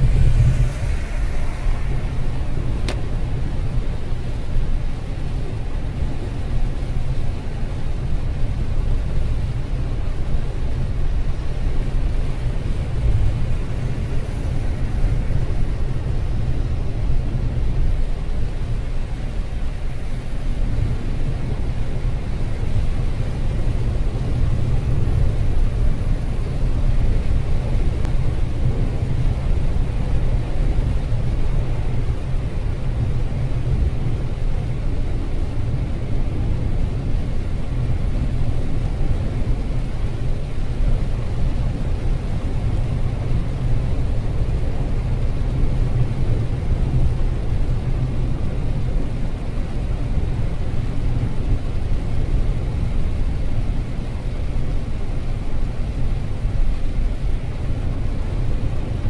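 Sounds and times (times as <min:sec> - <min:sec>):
road and engine rumble: 0:00.0 - 0:59.0
tyres hissing on wet road: 0:00.0 - 0:59.0.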